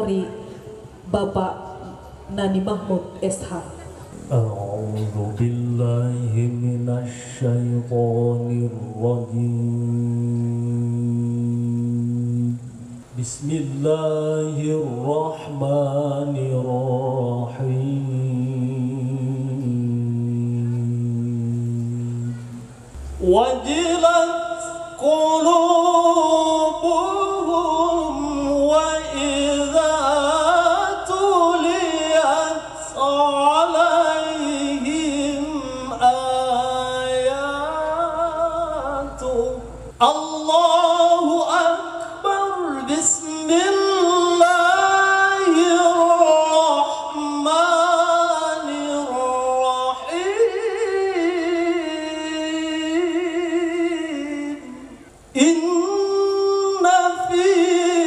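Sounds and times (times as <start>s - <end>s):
man reciting melodically: 4.2s - 58.0s.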